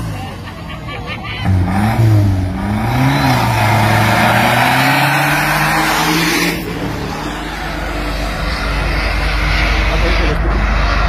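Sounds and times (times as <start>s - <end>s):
race cars accelerating hard: 0.0s - 11.0s.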